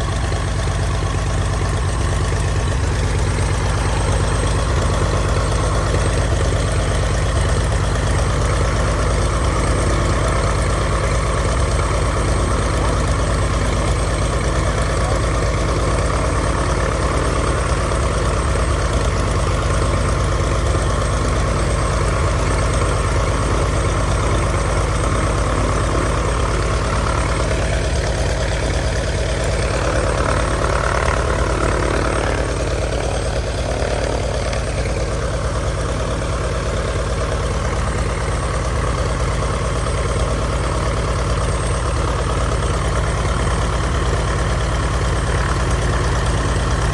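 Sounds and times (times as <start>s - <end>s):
aircraft engine idling: 0.0s - 46.9s.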